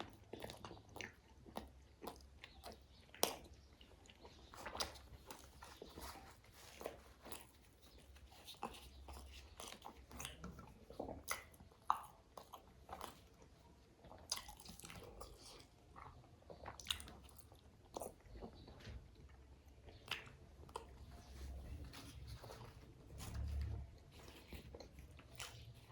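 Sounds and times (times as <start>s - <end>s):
chewing and biting food: 0.0s - 25.9s.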